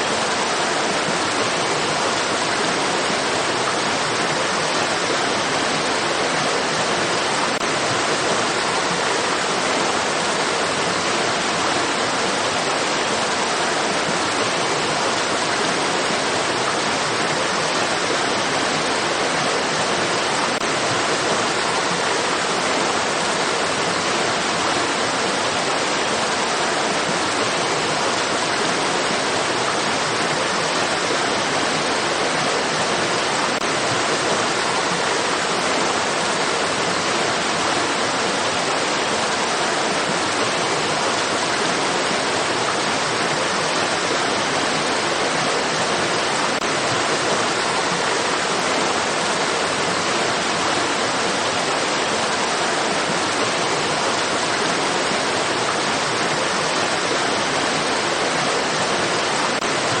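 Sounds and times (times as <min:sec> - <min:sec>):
water rushing: 0:00.0 - 1:00.0.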